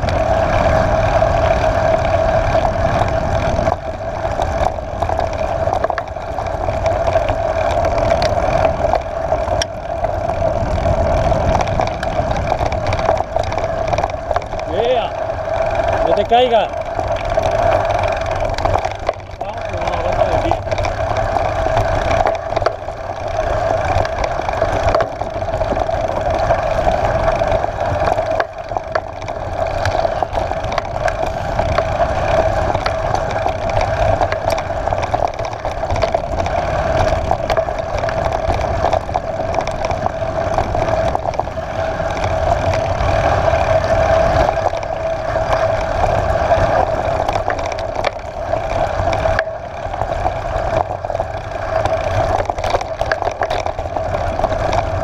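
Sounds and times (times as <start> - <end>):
bike frame rattle: 0.0 - 55.0
bike tyres rumbling on stones: 0.0 - 55.0
wind on camera: 0.0 - 55.0.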